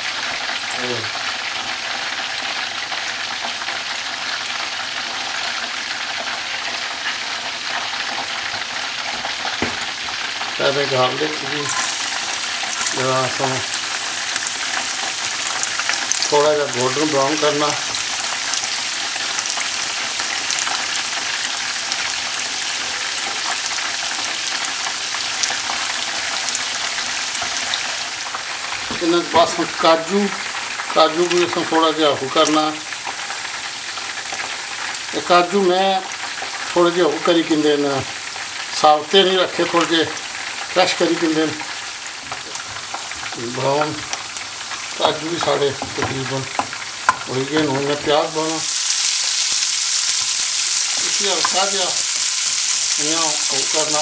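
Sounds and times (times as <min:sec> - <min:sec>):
hot oil hissing in a wok: 0:00.0 - 0:54.0.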